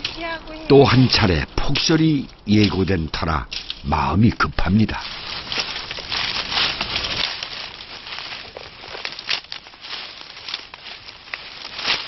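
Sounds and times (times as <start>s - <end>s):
twigs snapping: 0.0s - 0.4s, 1.6s - 4.1s, 4.9s - 12.0s
branches rustling and crackling: 0.0s - 12.0s.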